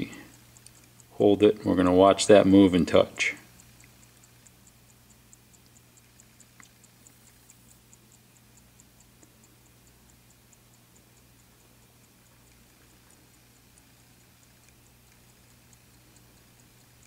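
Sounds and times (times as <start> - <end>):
clock ticking faintly: 0.0 - 17.0.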